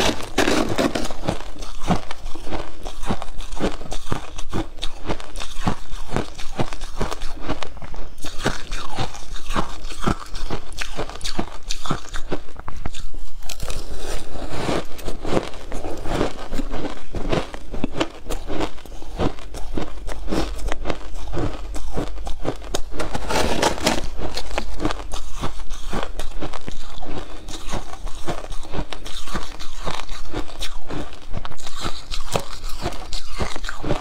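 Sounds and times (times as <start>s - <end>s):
chewing crushed ice: 0.0s - 34.0s.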